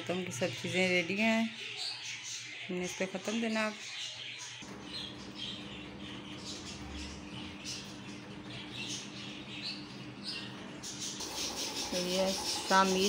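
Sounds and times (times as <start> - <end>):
small birds chirping and squeaking: 0.0 - 13.0.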